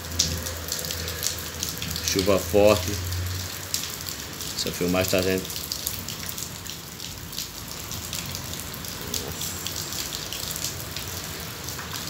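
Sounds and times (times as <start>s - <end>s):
heavy rain falling: 0.0s - 12.0s
raindrops splattering close: 0.0s - 12.0s.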